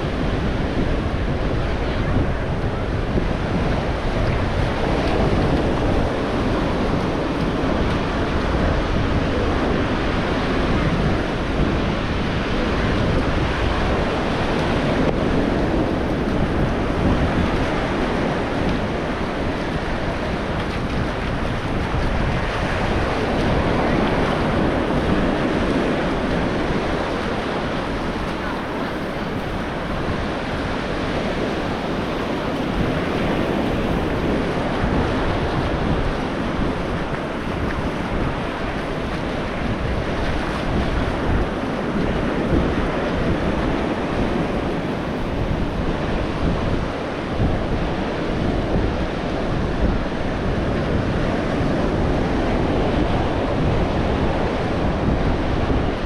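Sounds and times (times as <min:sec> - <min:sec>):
ocean surf washing onto beach: 0:00.0 - 0:56.0
wind buffeting microphone: 0:00.0 - 0:56.0.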